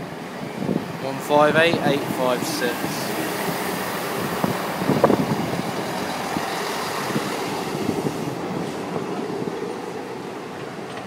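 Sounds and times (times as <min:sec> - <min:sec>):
train rolling rumble: 0:00.0 - 0:11.0.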